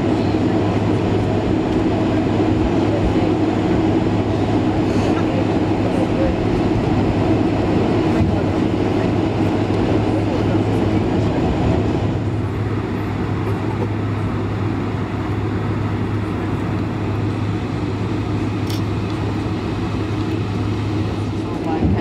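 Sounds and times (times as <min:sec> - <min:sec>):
airplane cabin engine hum: 0:00.0 - 0:22.0.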